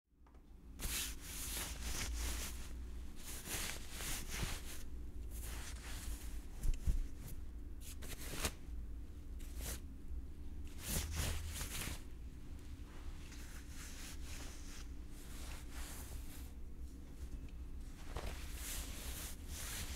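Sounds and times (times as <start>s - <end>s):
clothing rustling: 0.8s - 8.6s, 10.7s - 19.9s.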